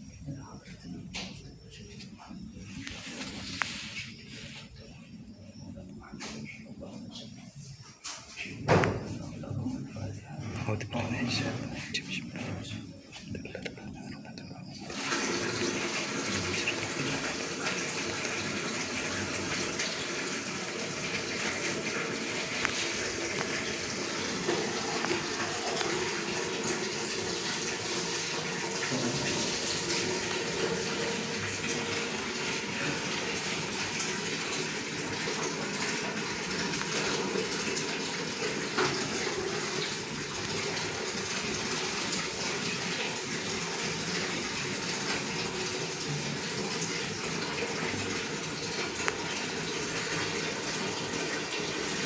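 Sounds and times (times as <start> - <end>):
running water rushing: 2.2 - 7.4, 8.6 - 52.0.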